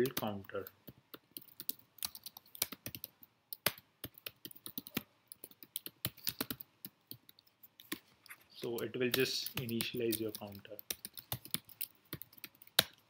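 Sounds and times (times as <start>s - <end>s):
typing on computer keyboard: 0.0s - 8.0s, 9.1s - 13.0s.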